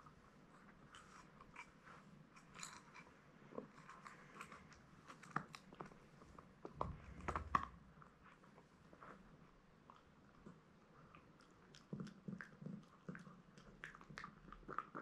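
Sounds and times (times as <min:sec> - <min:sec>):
puppy gnawing a bone: 0:00.2 - 0:08.1, 0:08.9 - 0:15.0.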